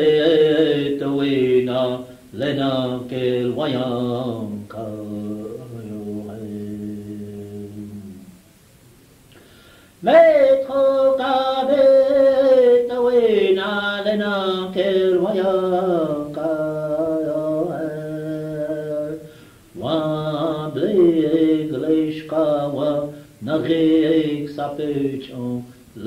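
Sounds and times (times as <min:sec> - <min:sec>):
person singing unaccompanied chant: 0:00.0 - 0:08.4, 0:10.0 - 0:26.0.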